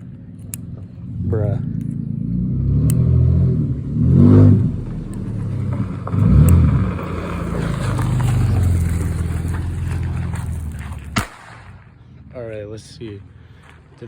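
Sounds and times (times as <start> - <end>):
engine revving: 0.0 - 13.4.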